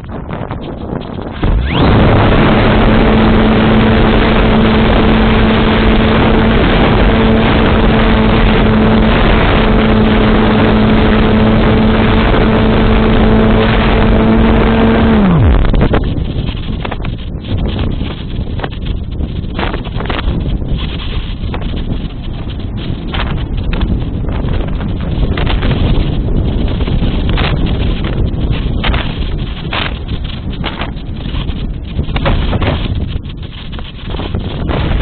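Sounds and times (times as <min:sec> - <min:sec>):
electric motor and propeller humming: 0:00.0 - 0:35.0
wind noise: 0:00.0 - 0:35.0.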